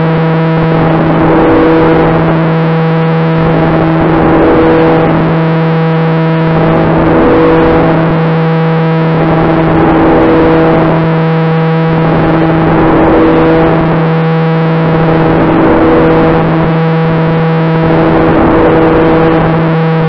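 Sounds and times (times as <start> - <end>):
model aeroplane propellers buzzing: 0.0 - 20.0.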